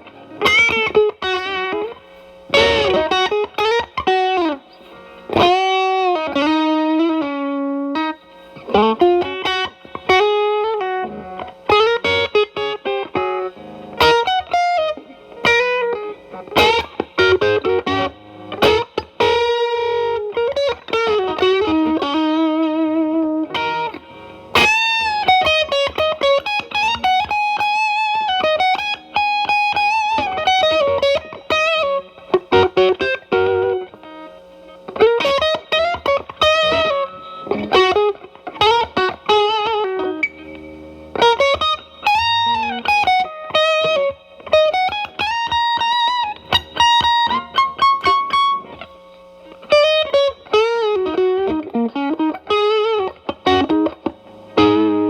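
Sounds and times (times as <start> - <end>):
lightly distorted electric guitar: 0.0 - 55.0.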